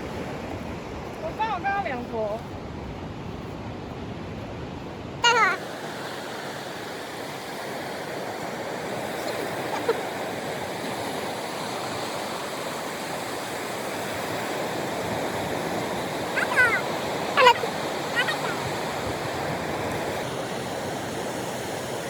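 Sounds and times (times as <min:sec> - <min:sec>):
sea surf on the shore: 0:00.0 - 0:22.0.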